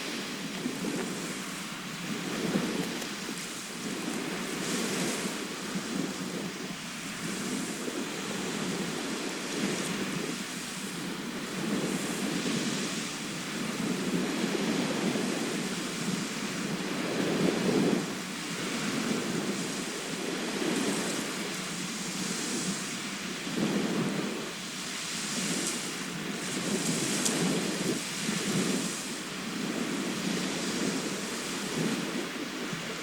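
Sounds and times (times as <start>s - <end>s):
waves washing in: 0.0s - 33.0s.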